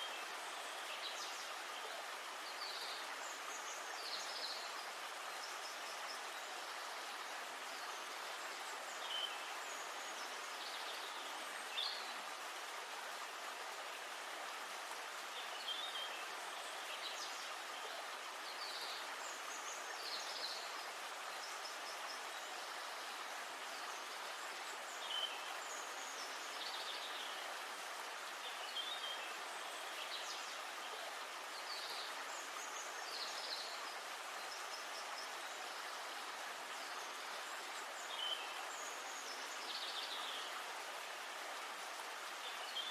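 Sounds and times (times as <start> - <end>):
rushing river water: 0.0 - 42.9.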